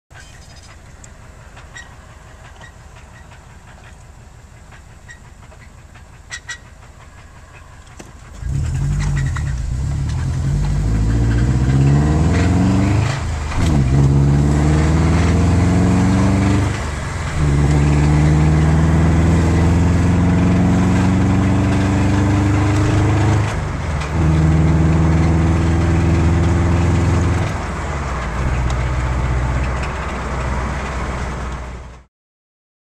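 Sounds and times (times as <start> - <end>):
car engine knocking and revving: 0.4 - 32.1.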